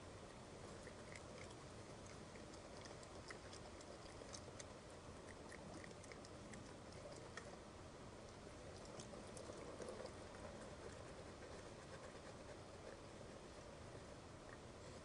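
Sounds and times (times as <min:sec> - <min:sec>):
steady low hiss: 0:00.0 - 0:15.0
raccoon chewing seed: 0:00.1 - 0:15.0.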